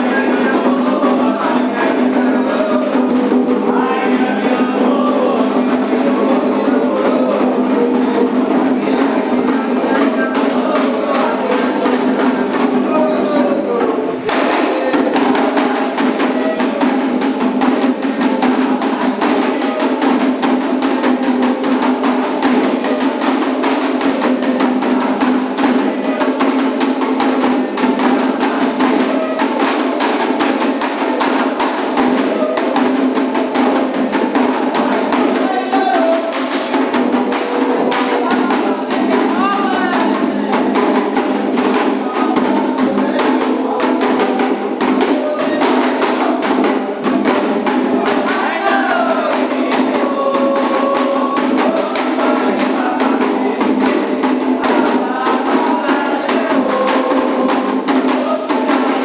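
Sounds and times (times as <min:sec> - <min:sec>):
rhythmic hand drumming: 0:00.0 - 0:59.0
voices singing: 0:00.0 - 0:59.0.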